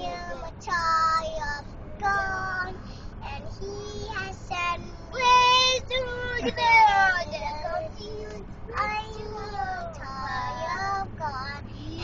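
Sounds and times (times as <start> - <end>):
car cabin rumble: 0.0 - 12.0
child singing: 0.0 - 12.0.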